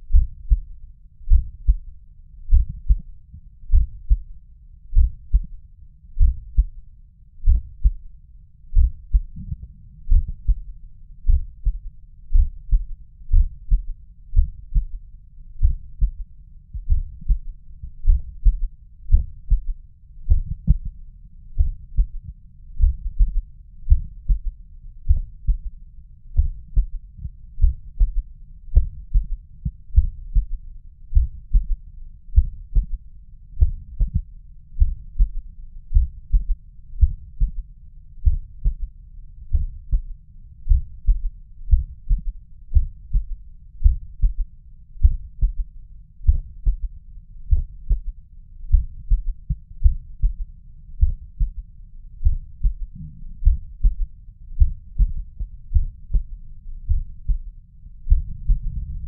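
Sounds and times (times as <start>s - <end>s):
heartbeat through stethoscope: 0.0s - 1.9s, 2.5s - 5.6s, 6.2s - 6.8s, 7.4s - 8.1s, 8.7s - 59.0s.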